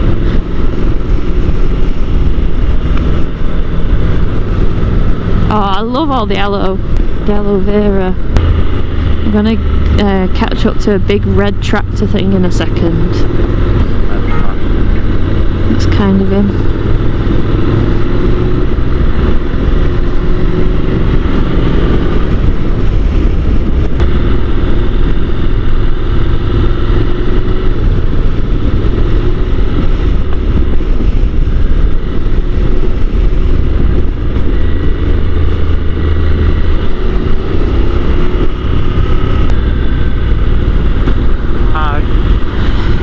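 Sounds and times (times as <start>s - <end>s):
motorcycle engine drone: 0.0s - 43.0s
wind rush: 0.0s - 43.0s.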